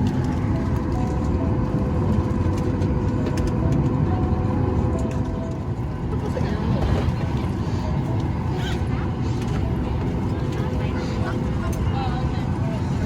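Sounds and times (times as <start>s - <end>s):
airliner cabin rumble and hiss: 0.0s - 13.0s.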